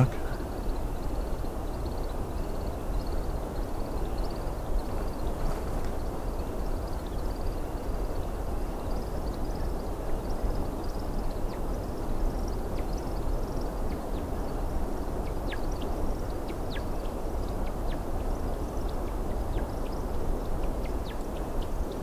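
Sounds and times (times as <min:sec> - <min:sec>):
bird twittering and chirping: 0:00.0 - 0:22.0.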